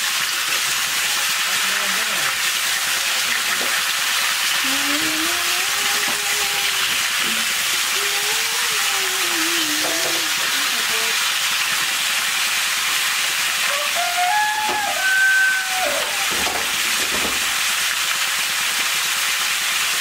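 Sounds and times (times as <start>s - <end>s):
pumpkin frying in oil: 0.0s - 20.0s.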